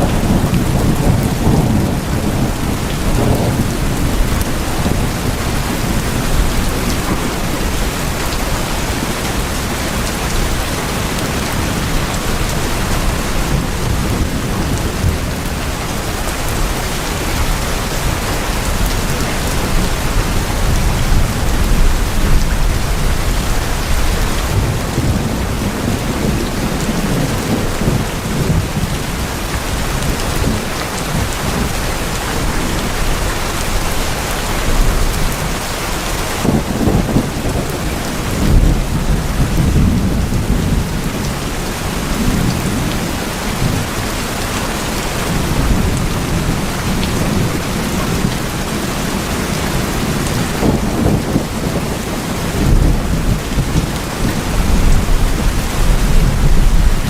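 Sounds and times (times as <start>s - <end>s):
heavy rain on tin roofs: 0.0s - 57.0s.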